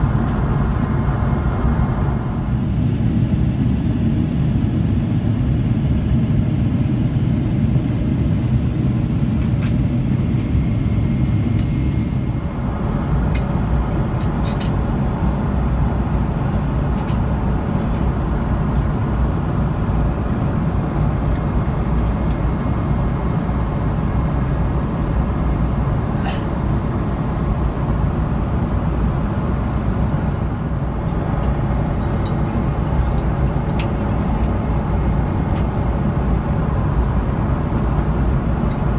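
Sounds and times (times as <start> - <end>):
airliner cabin roar: 0.0 - 38.9.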